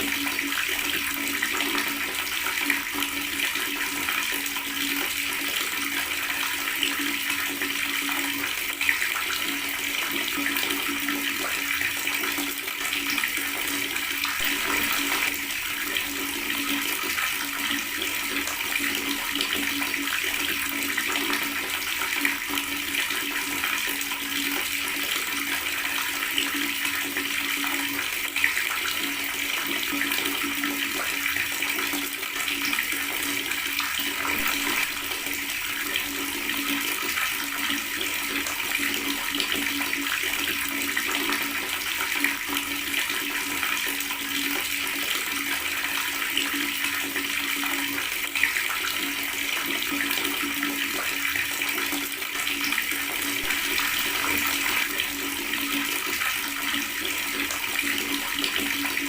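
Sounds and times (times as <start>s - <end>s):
water tap running: 0.0s - 59.0s.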